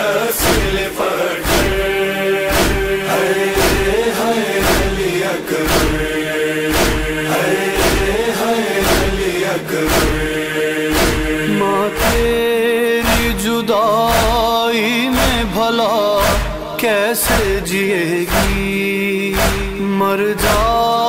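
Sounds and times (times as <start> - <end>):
men chanting a lament: 0.0 - 21.0
heavy beat: 0.4 - 20.9.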